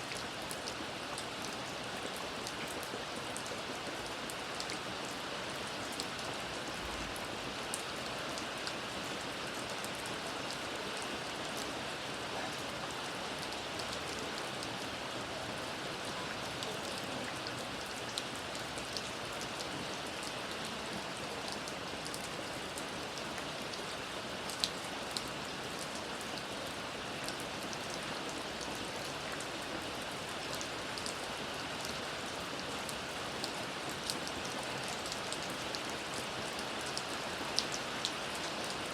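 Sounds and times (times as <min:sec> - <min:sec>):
steady rain falling: 0:00.0 - 0:38.9
raindrops ticking on a surface: 0:00.1 - 0:38.9.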